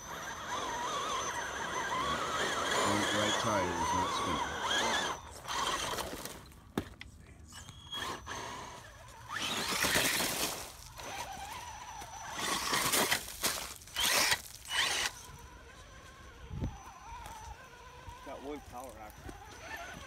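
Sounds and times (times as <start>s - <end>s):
toy car motor whirring: 0.0s - 6.6s, 7.5s - 20.0s
faint steady whine: 0.0s - 20.0s.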